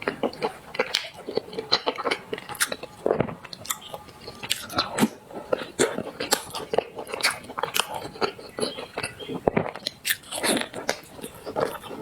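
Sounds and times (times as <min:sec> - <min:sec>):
lip smacks: 0:00.0 - 0:12.0
wet chewing: 0:00.0 - 0:12.0.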